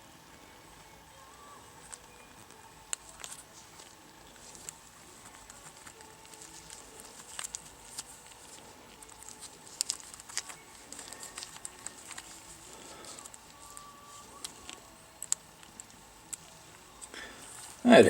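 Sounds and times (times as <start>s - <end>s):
plastic parts clicking in hands: 1.9s - 17.8s.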